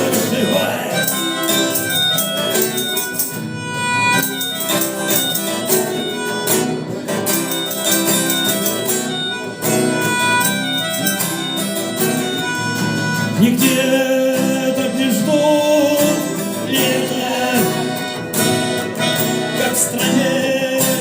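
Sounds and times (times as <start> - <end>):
instrumental rock music: 0.0 - 21.0.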